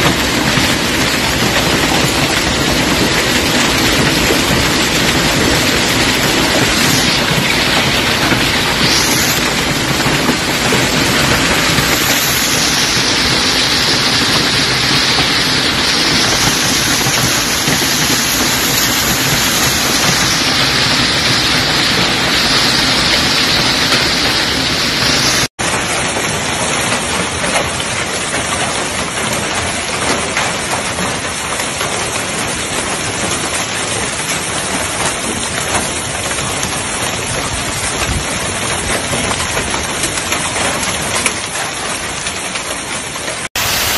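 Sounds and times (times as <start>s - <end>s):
hailstones pelting the ground: 0.0s - 43.9s.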